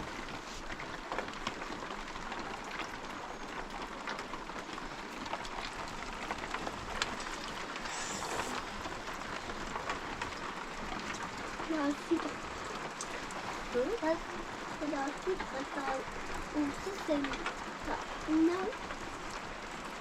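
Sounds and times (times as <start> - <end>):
raindrops ticking on a surface: 0.0 - 20.0
steady rain falling: 0.0 - 20.0.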